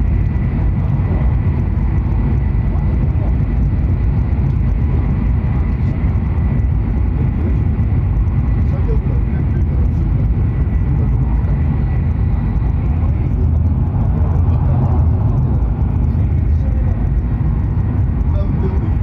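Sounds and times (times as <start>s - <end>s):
train running at speed: 0.0s - 19.0s.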